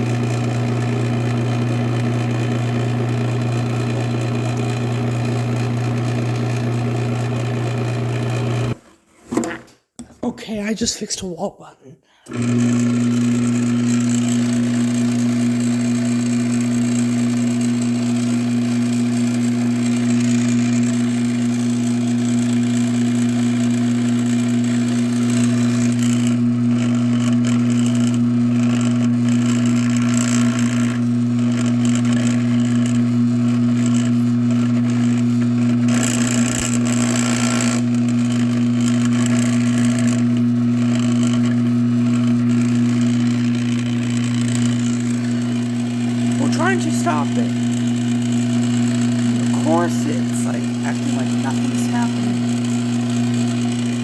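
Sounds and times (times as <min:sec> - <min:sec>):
garage door opener motor humming: 0:00.0 - 0:08.8, 0:12.3 - 0:54.0.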